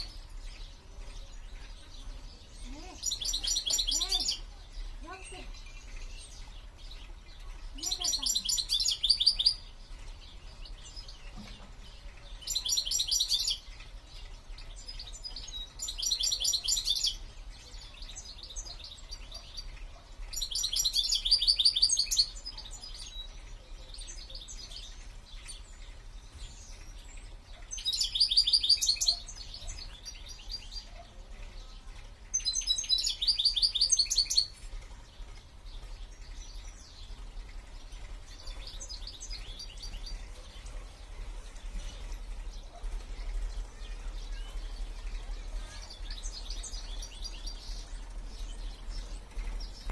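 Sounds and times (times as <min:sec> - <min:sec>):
songbird trilling: 0:00.0 - 0:49.9.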